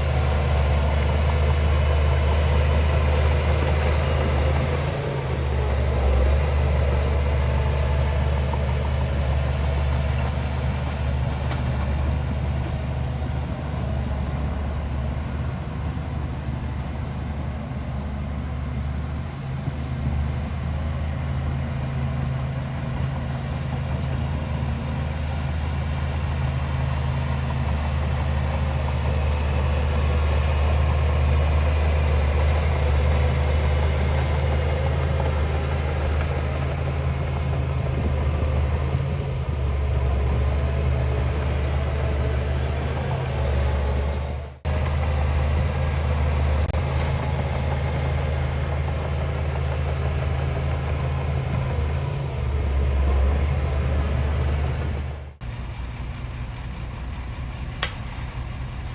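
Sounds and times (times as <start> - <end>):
heavy diesel engine droning: 0.0 - 58.9.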